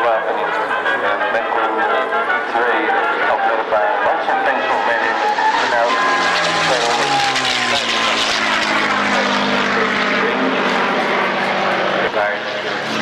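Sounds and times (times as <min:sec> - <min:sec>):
propeller plane engine flypast: 0:00.3 - 0:13.0.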